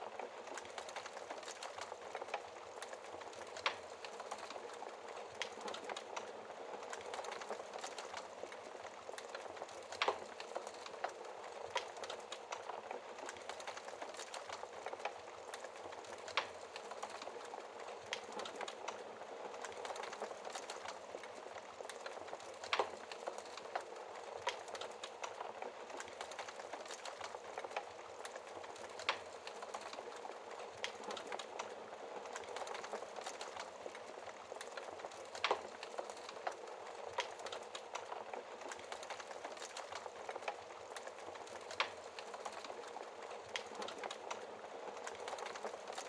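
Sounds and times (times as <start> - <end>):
fireplace fire crackling: 0.0 - 46.0.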